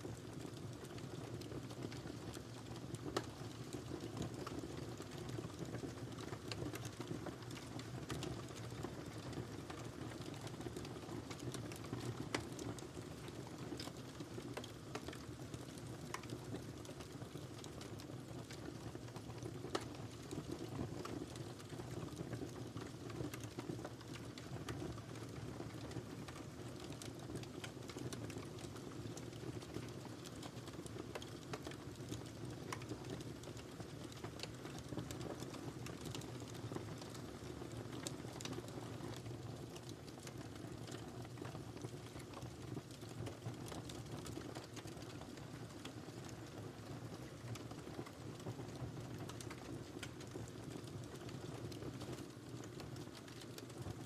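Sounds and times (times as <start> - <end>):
fire crackling in a fireplace: 0.0 - 54.0.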